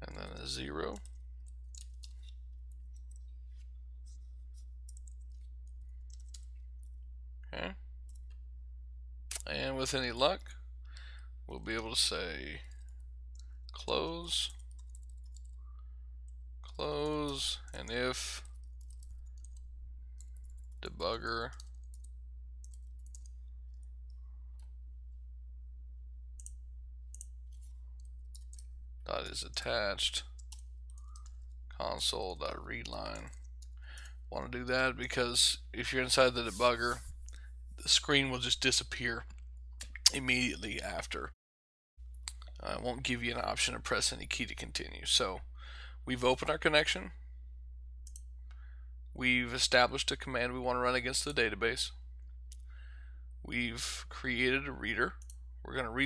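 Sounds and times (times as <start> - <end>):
low electrical hum: 0.0 - 41.4, 42.0 - 56.0.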